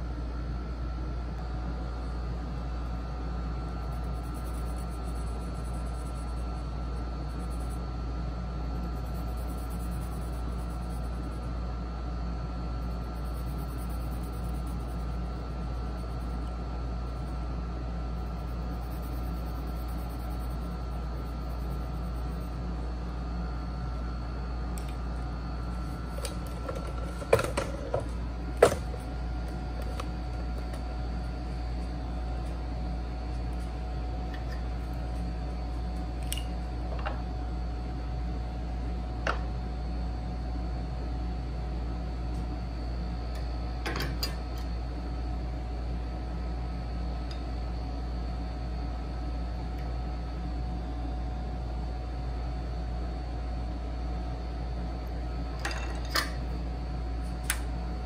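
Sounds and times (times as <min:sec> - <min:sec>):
room hum with fan drone: 0:00.0 - 0:58.0.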